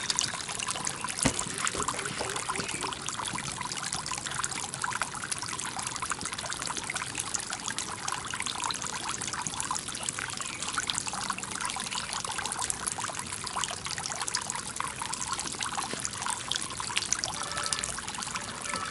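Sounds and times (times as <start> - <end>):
water stream splashing into water: 0.0 - 18.9.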